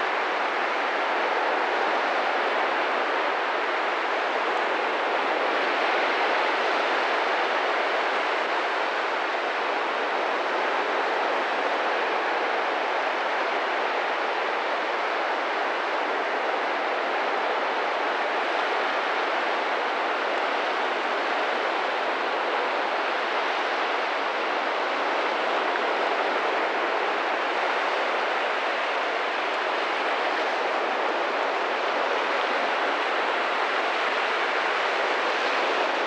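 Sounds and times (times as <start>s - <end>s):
waves breaking on beach: 0.0s - 36.0s.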